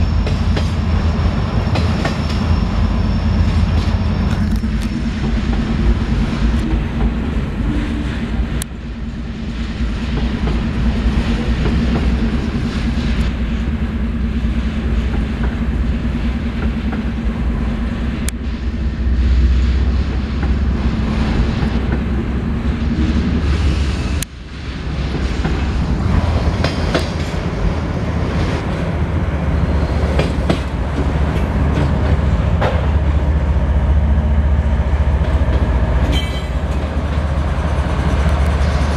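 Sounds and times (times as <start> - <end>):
diesel locomotive engine: 0.0 - 38.9
train wheels on rails: 0.0 - 38.9.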